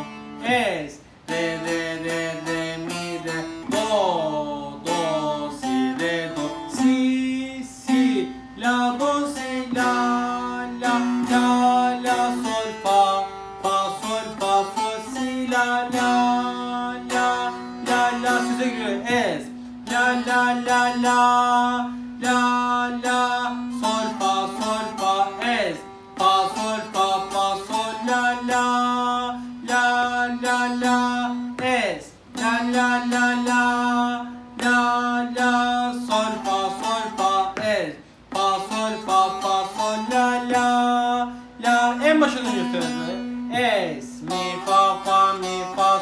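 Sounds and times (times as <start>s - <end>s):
plucked lute folk melody: 0.0s - 46.0s.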